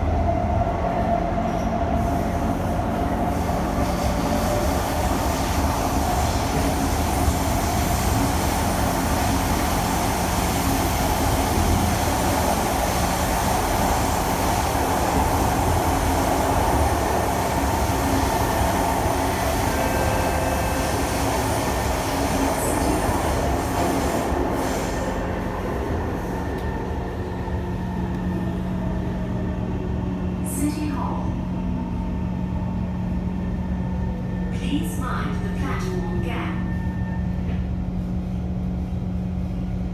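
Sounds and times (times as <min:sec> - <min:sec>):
train tunnel rushing noise: 0:00.0 - 0:39.9.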